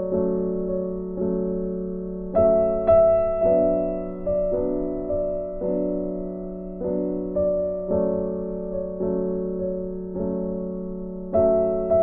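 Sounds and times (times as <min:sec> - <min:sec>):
slow keyboard chords: 0:00.0 - 0:12.0.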